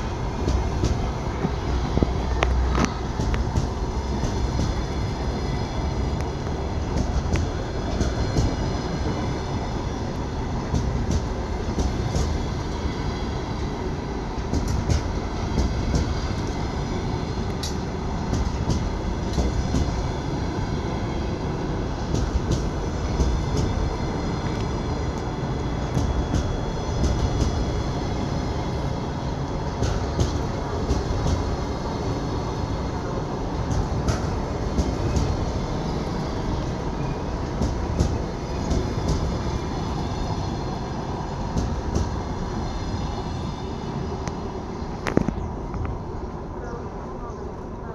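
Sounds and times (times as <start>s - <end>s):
wheels clicking over rail joints: 0.0s - 42.6s
train wheels rumbling: 0.0s - 47.9s.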